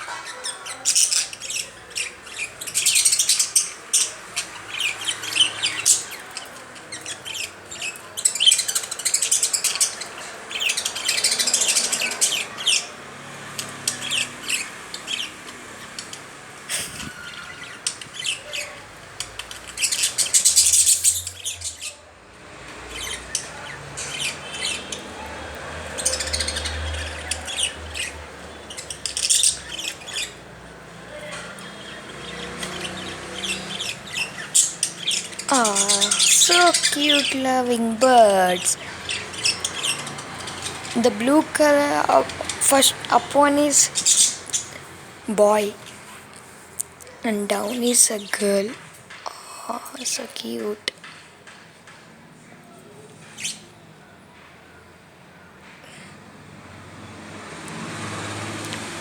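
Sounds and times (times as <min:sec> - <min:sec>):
parrots chirping and chattering: 0:00.0 - 0:52.0, 0:53.0 - 0:53.9.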